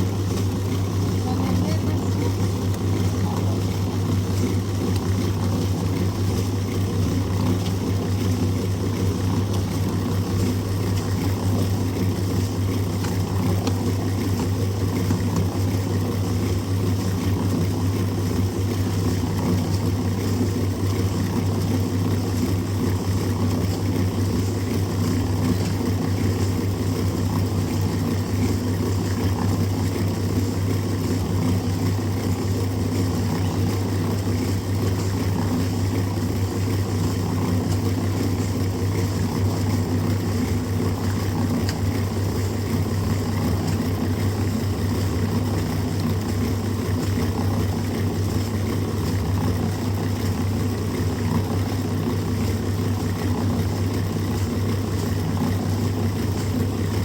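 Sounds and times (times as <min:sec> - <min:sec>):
machine drone with low hum: 0:00.0 - 0:57.0.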